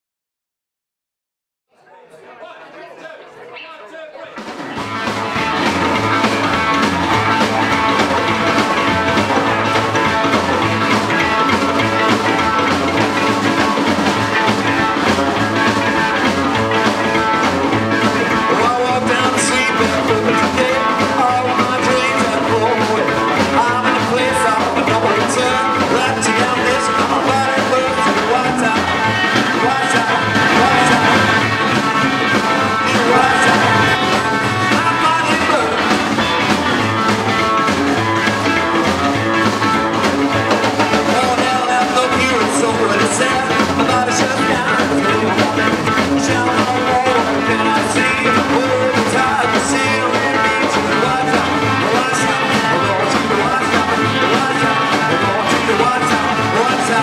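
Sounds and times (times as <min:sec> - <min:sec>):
rock band playing live: 0:04.3 - 0:57.0
electric guitar: 0:04.4 - 0:57.0.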